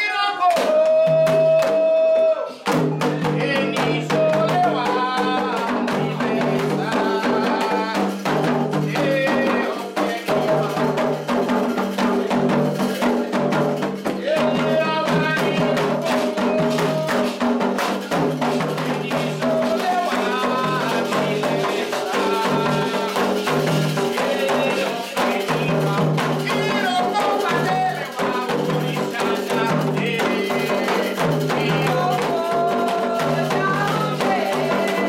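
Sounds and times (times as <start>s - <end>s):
hand drums in fast rhythm: 0.0s - 35.0s
voices singing a chant: 0.0s - 35.0s
rattling percussion: 2.6s - 35.0s.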